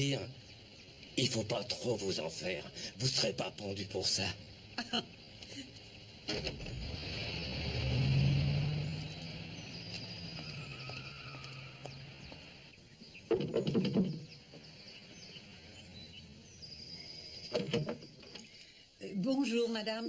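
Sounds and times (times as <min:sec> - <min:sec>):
car engine pulling off: 0:00.0 - 0:18.6
birds chirping: 0:00.0 - 0:20.0.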